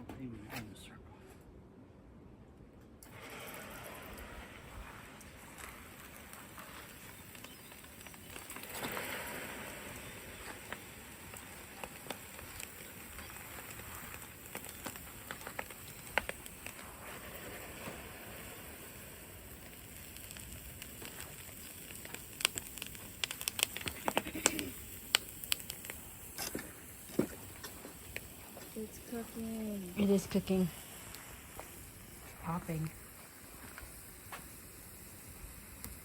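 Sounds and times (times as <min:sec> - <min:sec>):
molten metal crackling and popping: 0:02.6 - 0:36.0
steady steam hiss: 0:03.0 - 0:36.0.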